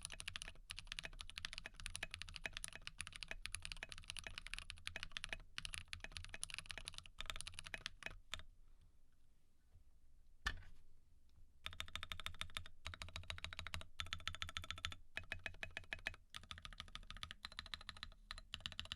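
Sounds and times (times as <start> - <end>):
fast typing on mechanical keyboard: 0.0 - 8.4, 11.6 - 18.9.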